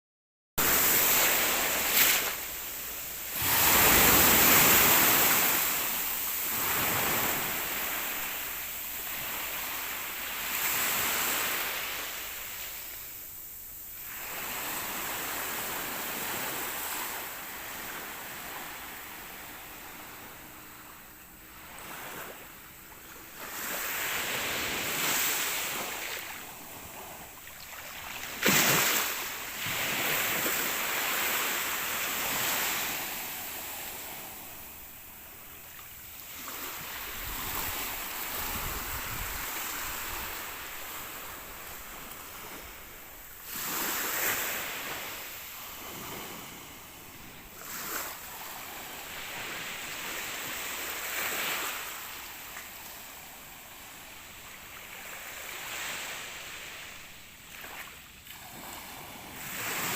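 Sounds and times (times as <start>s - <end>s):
sea waves breaking on shore: 0.6s - 59.9s.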